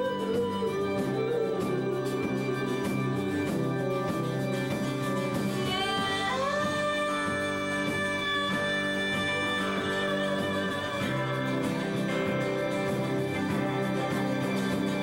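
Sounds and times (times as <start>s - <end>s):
woman singing lead: 0.0s - 3.7s, 5.4s - 15.0s
live band playing: 0.0s - 15.0s.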